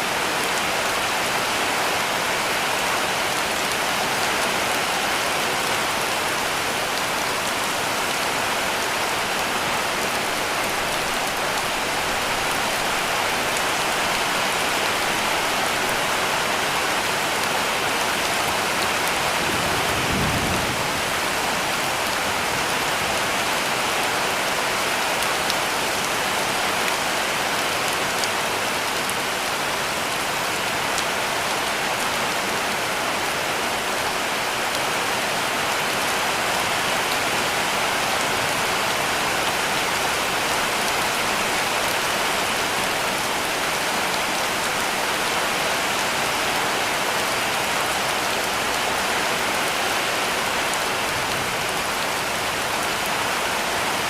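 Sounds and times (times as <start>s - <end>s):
heavy rain on roof: 0.0s - 54.0s.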